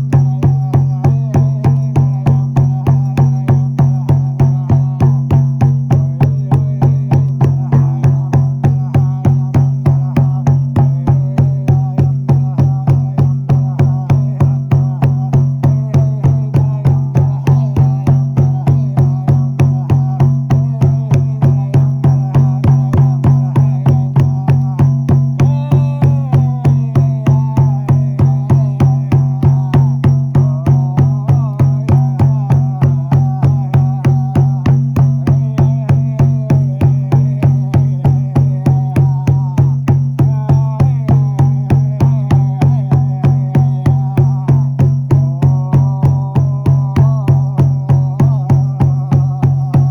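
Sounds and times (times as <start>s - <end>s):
frame drum booming: 0.0s - 49.9s.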